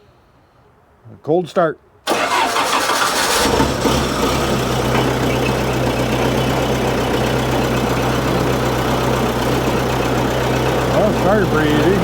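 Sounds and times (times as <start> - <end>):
diesel engine starting and idling: 2.1 - 12.0.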